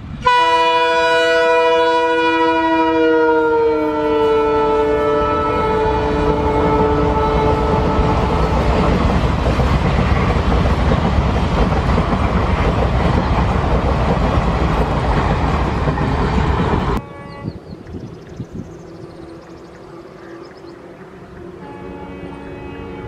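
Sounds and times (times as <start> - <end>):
train wheels rumbling on rails: 4.1 - 23.0.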